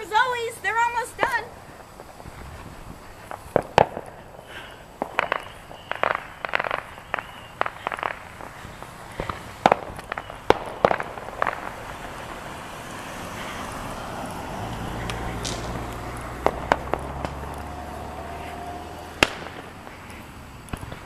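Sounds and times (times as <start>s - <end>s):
firecrackers popping: 0.0s - 21.0s.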